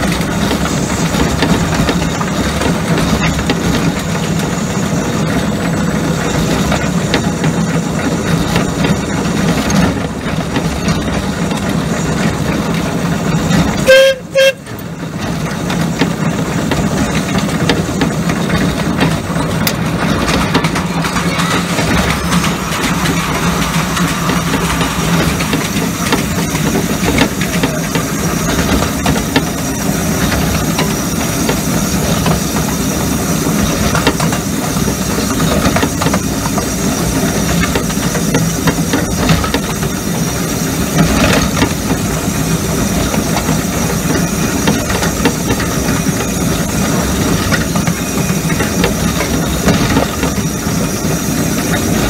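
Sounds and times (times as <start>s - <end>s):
low locomotive running noise: 0.0s - 52.0s
steam hissing: 0.0s - 52.0s
wheels clicking on rail: 0.0s - 52.0s.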